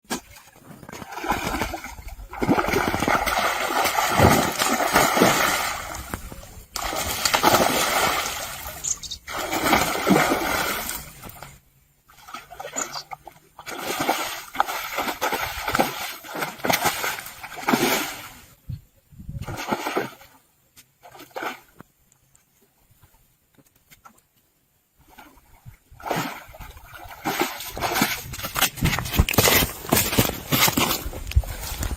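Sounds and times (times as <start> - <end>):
water splashing and sloshing: 0.0 - 18.6, 19.4 - 22.0, 24.9 - 31.9.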